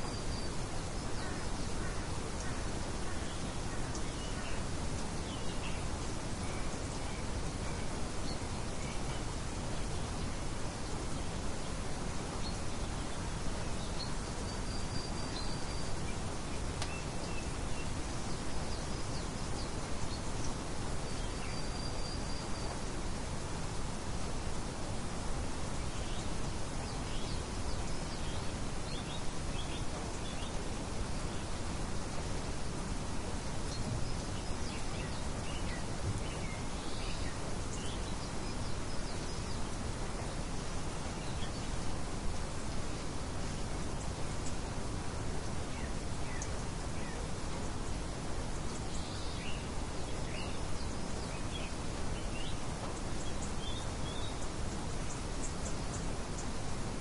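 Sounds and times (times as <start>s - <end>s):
faint bird chirps: 0.0s - 22.9s, 25.7s - 56.7s
wind: 0.0s - 57.0s.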